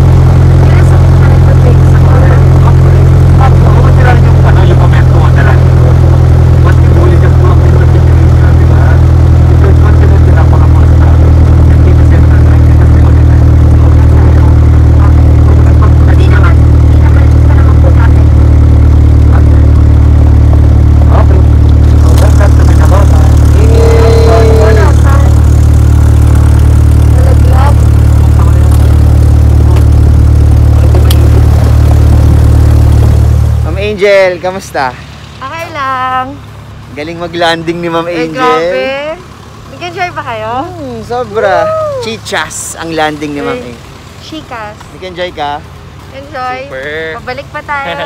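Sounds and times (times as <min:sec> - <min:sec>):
aircraft engine and propeller: 0:00.0 - 0:40.4.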